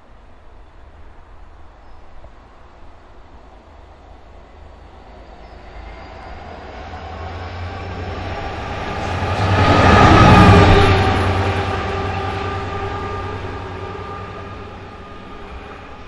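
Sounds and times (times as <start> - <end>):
diesel locomotive engine approaching: 0.0 - 16.0.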